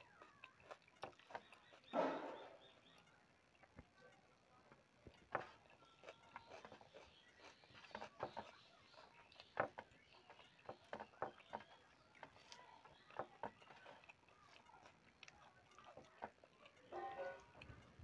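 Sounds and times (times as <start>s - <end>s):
chewing and mouth smacks: 0.0s - 4.2s, 5.0s - 18.0s.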